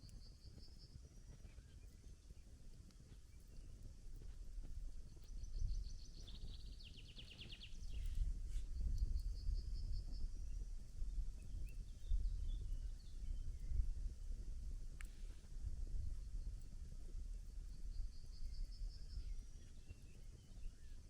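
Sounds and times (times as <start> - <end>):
campfire crackles: 0.0 - 21.0.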